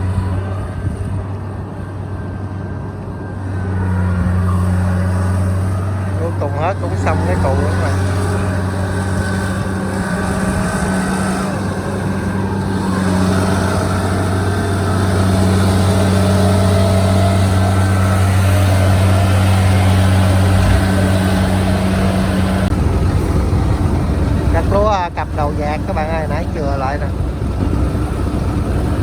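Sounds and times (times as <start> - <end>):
combine harvester engine hum: 0.0 - 29.0
faint whine: 0.0 - 29.0.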